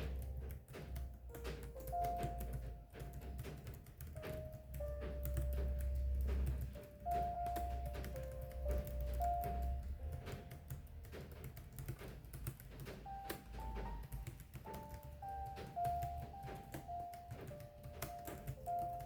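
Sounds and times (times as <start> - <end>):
soft background music: 0.0 - 19.0.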